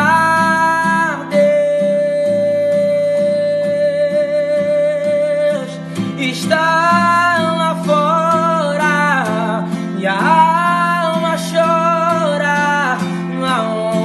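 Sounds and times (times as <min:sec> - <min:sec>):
acoustic guitar: 0:00.0 - 0:14.0
man singing: 0:00.0 - 0:14.0.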